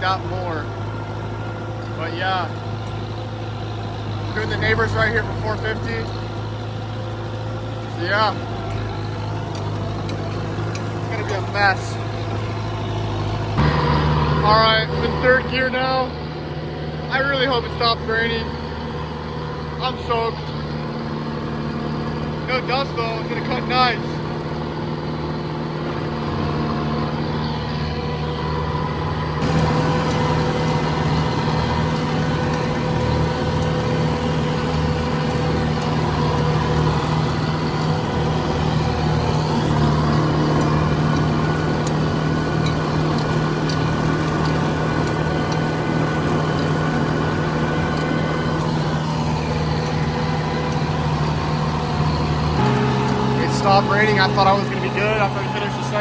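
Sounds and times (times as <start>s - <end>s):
mower whirring: 0.0s - 56.0s
tractor engine running: 0.0s - 56.0s.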